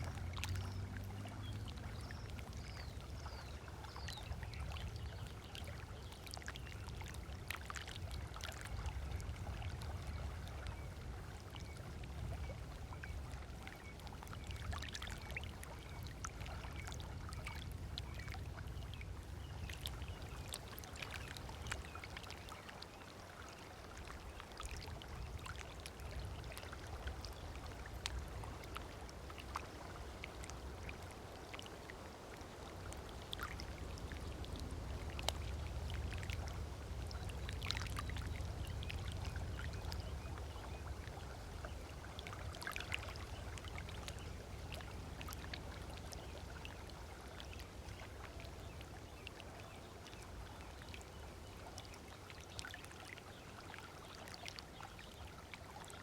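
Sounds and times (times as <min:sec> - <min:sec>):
small waves lapping at shore: 0:00.0 - 0:56.0.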